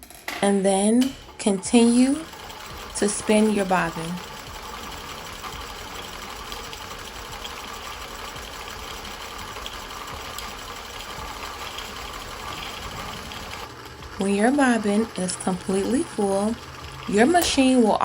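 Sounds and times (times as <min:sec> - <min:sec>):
sewing machine running: 0:00.0 - 0:18.0.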